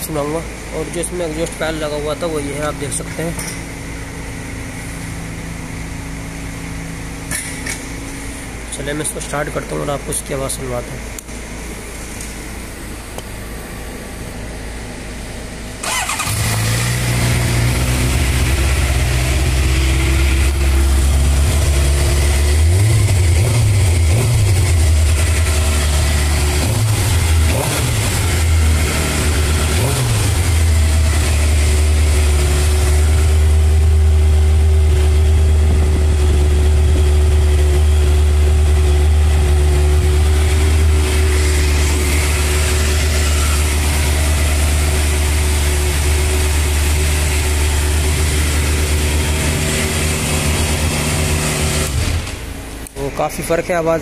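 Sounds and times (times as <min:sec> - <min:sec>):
motorcycle engine idling and revving: 0:00.0 - 0:09.6, 0:11.0 - 0:53.0.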